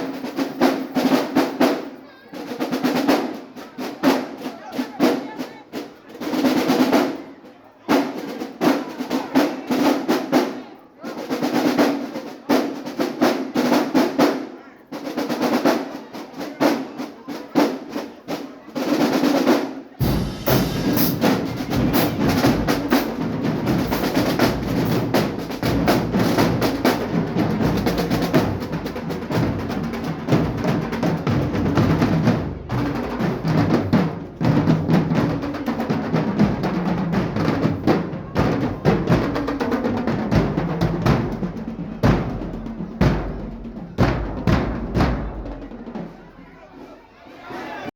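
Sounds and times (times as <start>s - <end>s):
marching band playing: 0.0s - 7.3s, 7.9s - 46.9s
snare drum cadence with rolls: 0.0s - 46.9s.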